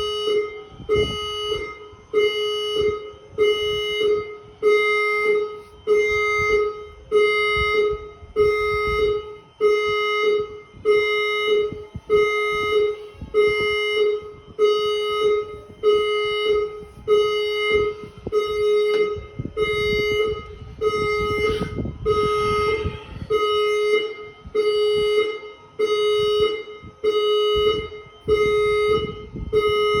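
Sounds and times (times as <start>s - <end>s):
alarm horn beeping: 0.0s - 30.0s.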